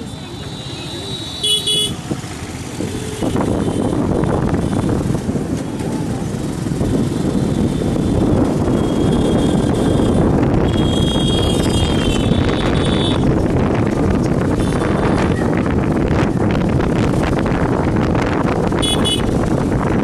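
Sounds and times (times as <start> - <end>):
passing traffic: 0.0 - 20.0
wind rushing over microphone: 1.9 - 20.0.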